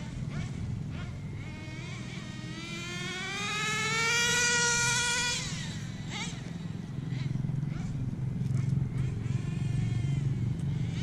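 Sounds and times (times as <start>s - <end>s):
rc car engine revving: 0.0s - 11.0s.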